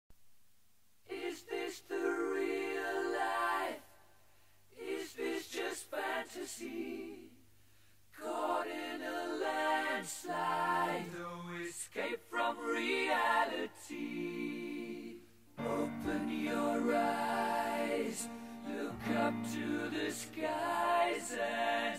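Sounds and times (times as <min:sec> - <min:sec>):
a cappella singing: 0:01.0 - 0:04.0, 0:04.7 - 0:07.4, 0:08.1 - 0:21.9.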